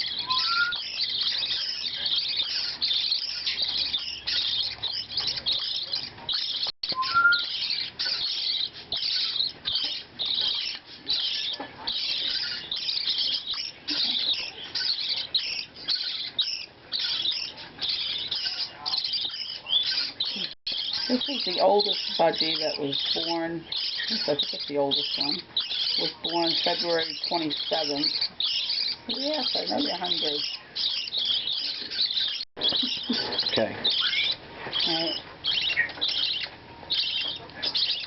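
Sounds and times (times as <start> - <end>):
chicks chirping: 0.0 - 38.0.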